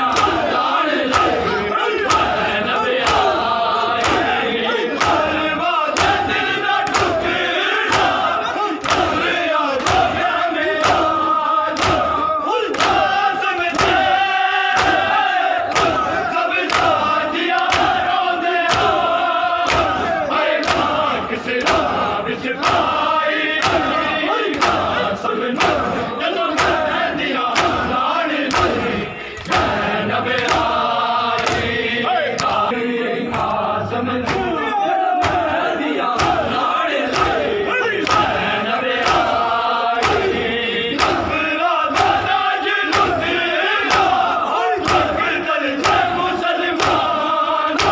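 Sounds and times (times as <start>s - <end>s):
men slapping their chests: 0.0s - 32.6s, 34.2s - 34.5s, 35.2s - 47.9s
men chanting together: 0.0s - 47.9s.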